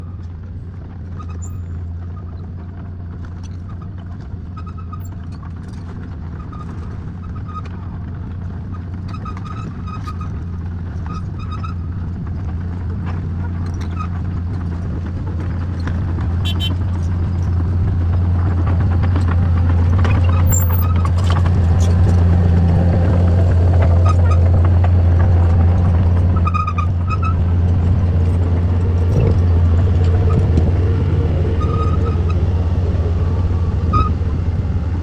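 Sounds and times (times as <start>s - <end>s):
construction machine engine droning: 0.0s - 35.0s.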